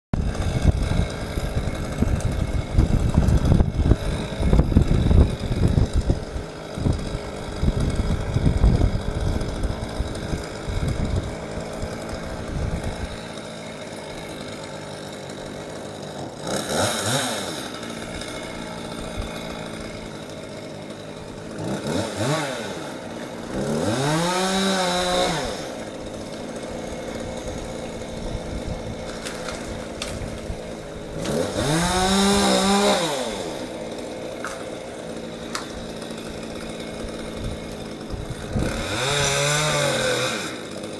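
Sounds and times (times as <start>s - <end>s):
chainsaw idling and revving: 0.2s - 40.9s.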